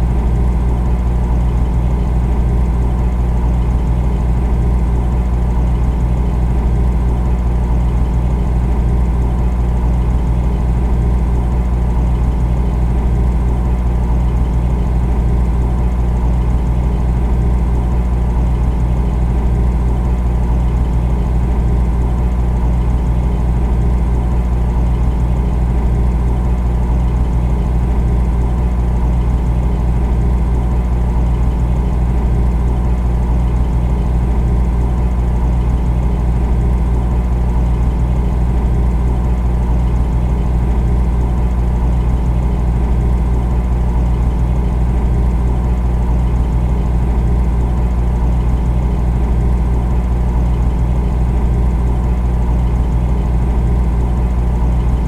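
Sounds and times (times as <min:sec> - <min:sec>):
refrigerator humming: 0:00.0 - 0:55.0.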